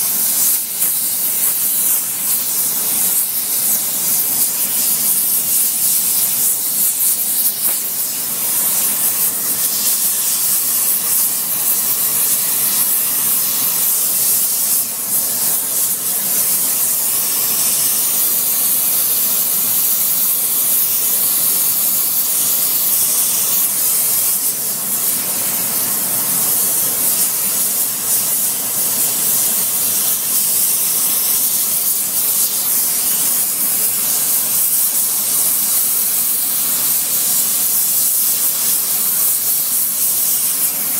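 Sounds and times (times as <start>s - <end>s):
torch flame hissing: 0.0s - 40.9s.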